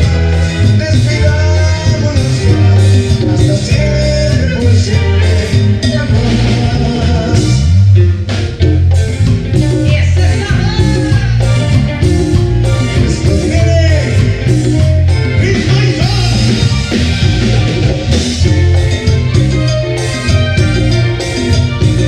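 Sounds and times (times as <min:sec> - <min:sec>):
tropical band playing: 0:00.0 - 0:22.0.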